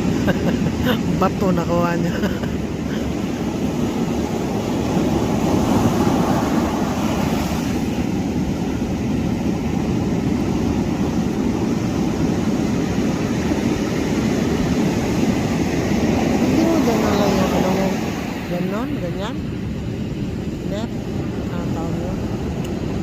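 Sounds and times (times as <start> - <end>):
ocean surf roaring: 0.0 - 23.0.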